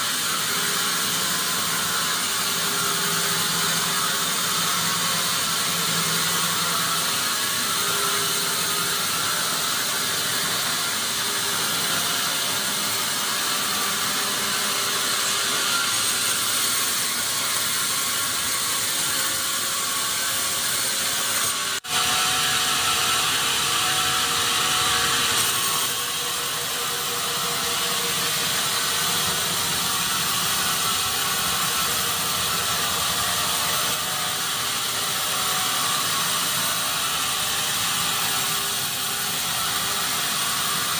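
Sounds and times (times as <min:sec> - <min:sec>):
sawmill machinery rasping: 0:00.0 - 0:40.9.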